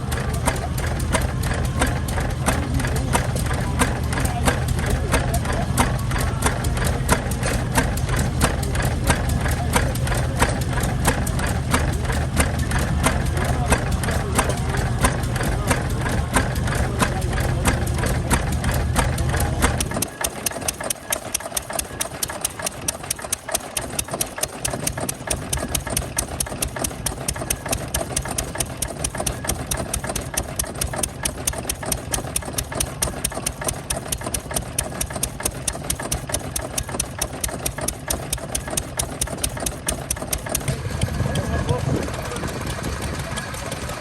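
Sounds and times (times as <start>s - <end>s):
rapid sharp knocks: 0.0s - 40.7s
small engine running: 0.0s - 44.0s.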